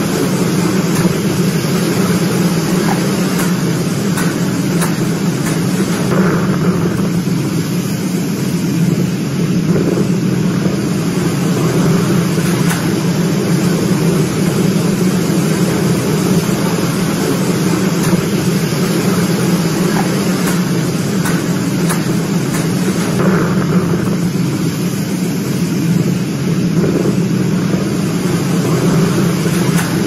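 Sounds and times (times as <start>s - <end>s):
loud rumbling noise: 0.0s - 30.0s.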